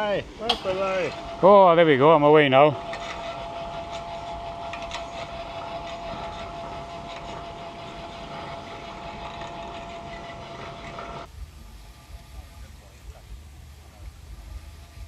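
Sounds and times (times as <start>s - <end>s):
cable rig whine: 0.0s - 15.0s.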